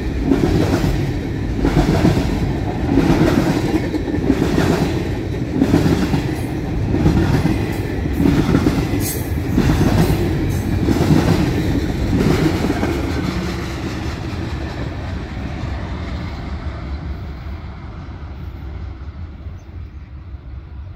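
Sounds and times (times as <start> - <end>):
train wheels clacking over rails: 0.0 - 19.6.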